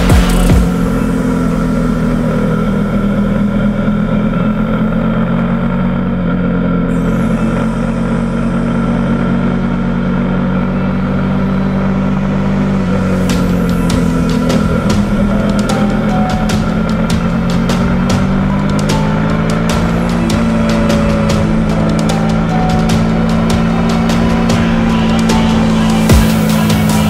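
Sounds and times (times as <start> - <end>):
motorcycle engine droning: 0.0 - 27.0.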